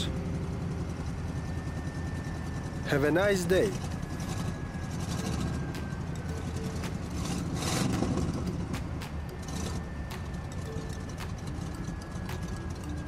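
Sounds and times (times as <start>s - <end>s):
cartoon vehicle engine: 0.0s - 13.0s.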